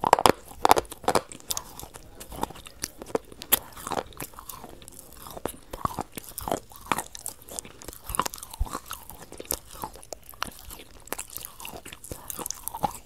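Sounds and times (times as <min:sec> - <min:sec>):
person chewing crunchy food: 0:00.0 - 0:13.0
wet mouth sounds: 0:00.0 - 0:13.0.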